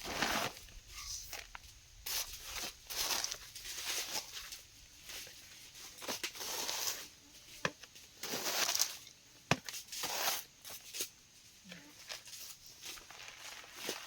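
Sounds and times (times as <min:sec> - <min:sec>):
dry plant material rustling: 0:00.0 - 0:09.0, 0:09.8 - 0:14.0.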